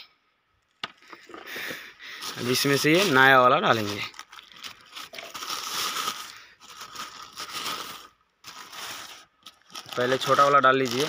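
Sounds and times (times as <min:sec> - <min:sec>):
plastic wrapping crinkling: 0:01.1 - 0:11.0.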